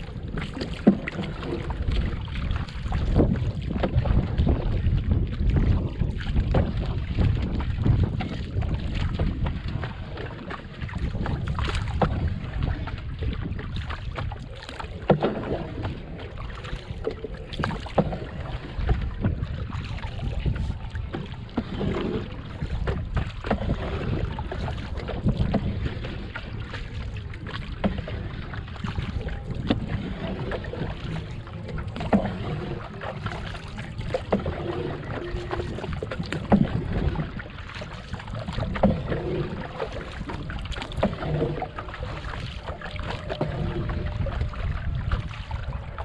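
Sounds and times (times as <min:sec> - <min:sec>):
paddle splashing water: 0:00.0 - 0:46.0
wind noise on microphone: 0:00.0 - 0:46.0.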